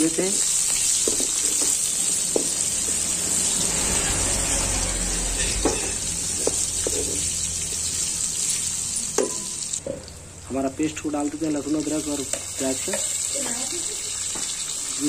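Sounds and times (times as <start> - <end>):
onion and spices sizzling in oil: 0.0 - 15.0.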